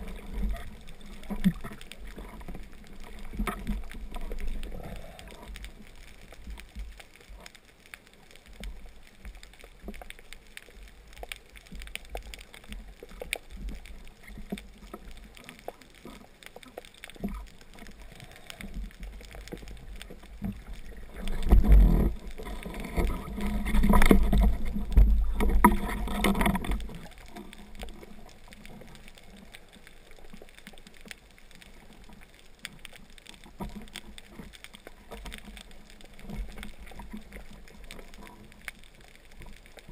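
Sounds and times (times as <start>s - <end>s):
low underwater rumble: 0.0s - 32.6s
faint clicks: 0.0s - 39.9s
rush of water: 0.0s - 39.9s.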